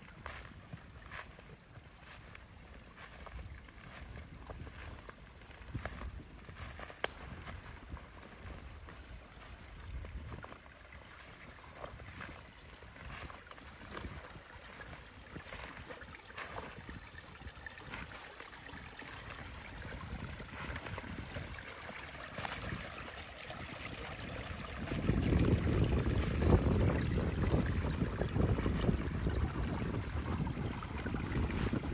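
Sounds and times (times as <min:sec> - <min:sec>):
stream trickling: 0:00.0 - 0:31.9.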